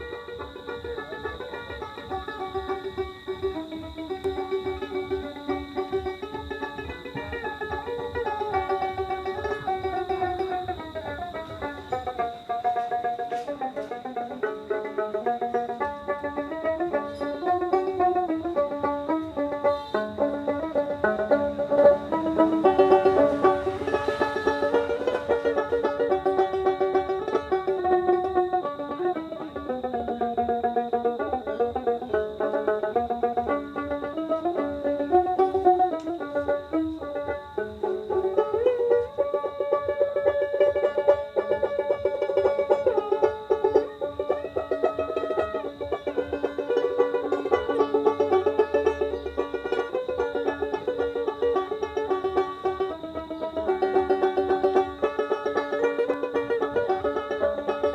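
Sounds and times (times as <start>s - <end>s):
plucked lute melody: 0.0s - 57.9s.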